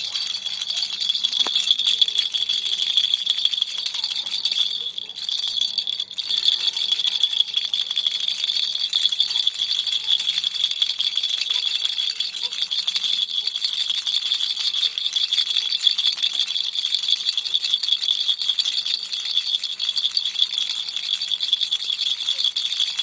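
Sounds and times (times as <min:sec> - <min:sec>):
baby toy rattle shaken: 0:00.0 - 0:23.0.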